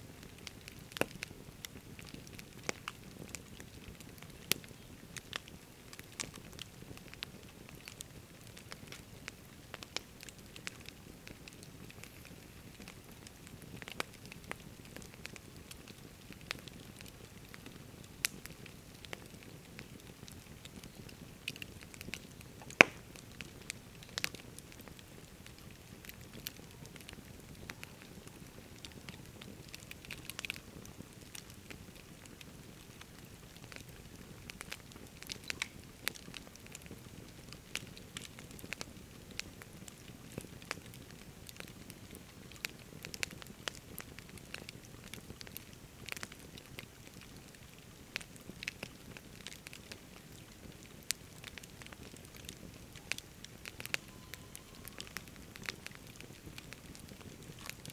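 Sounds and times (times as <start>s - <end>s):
campfire crackling and popping: 0.0s - 57.9s
low steady hiss: 0.0s - 57.9s.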